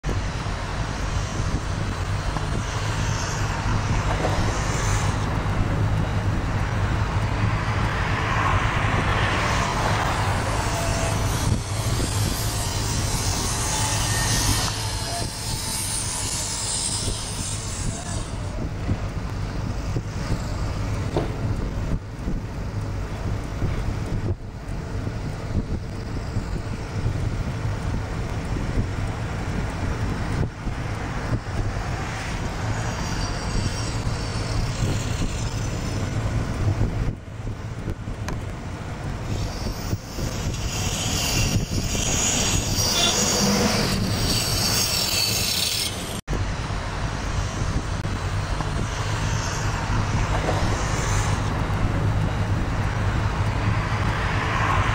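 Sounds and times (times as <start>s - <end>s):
vehicle rumble and road noise: 0.0s - 54.9s.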